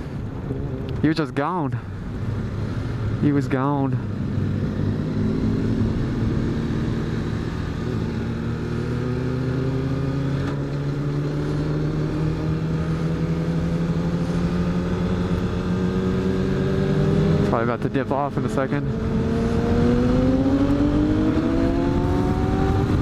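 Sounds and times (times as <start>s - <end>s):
motorcycle engine accelerating: 0.0s - 1.2s, 4.0s - 23.0s.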